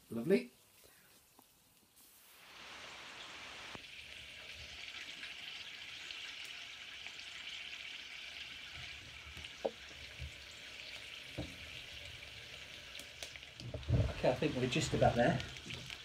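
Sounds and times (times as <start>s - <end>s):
chicken sizzling under metal lid: 1.5s - 16.0s.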